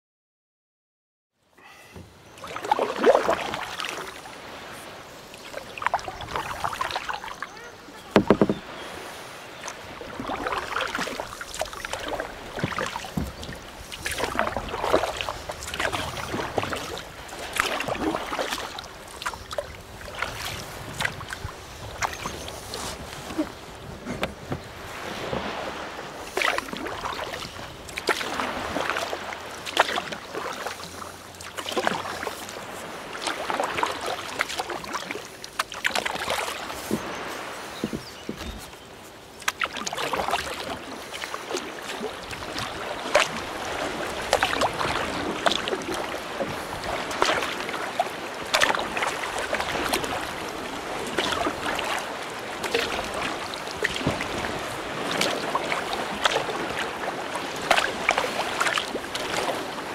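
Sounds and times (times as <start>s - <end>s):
paddle strokes splashing water: 1.6s - 59.9s.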